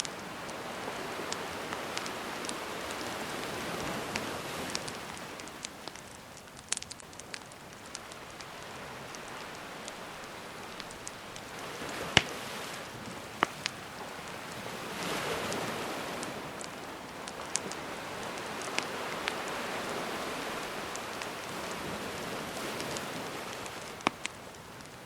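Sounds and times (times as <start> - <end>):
campfire crackling and popping: 0.0 - 25.0
sea waves washing in: 0.0 - 25.0.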